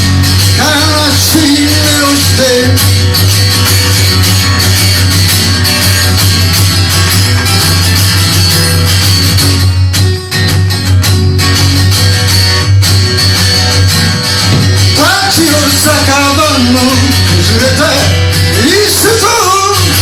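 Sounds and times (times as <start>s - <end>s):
instrumental rock music with guitar: 0.0s - 20.0s.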